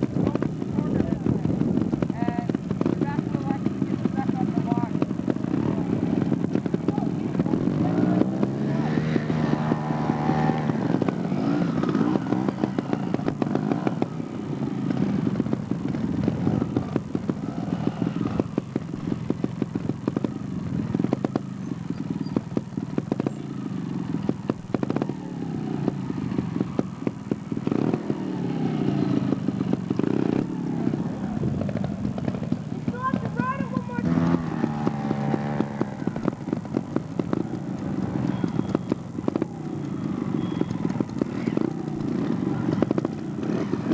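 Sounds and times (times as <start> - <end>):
clatter: 0.0 - 43.9
vehicle engines revving: 0.0 - 43.9.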